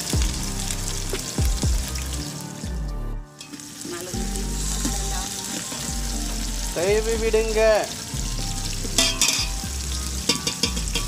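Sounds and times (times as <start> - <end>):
music with deep drum hits: 0.0 - 3.1, 4.0 - 7.6, 8.2 - 11.0
onions sizzling in hot oil: 0.0 - 11.0.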